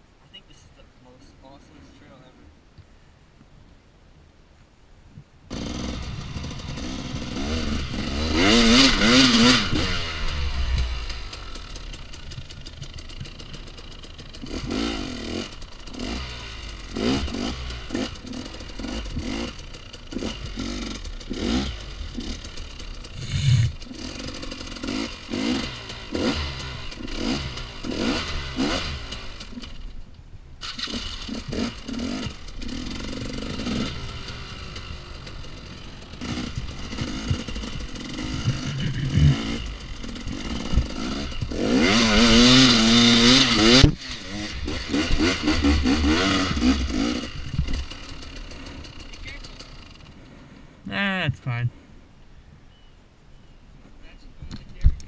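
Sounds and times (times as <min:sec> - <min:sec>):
dirt bike engine revving: 0:05.5 - 0:29.9, 0:30.6 - 0:51.6.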